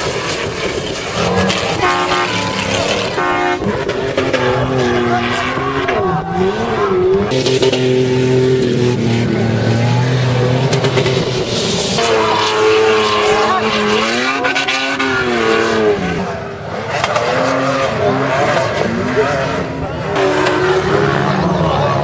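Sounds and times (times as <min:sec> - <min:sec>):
engines revving hard: 0:00.0 - 0:22.0.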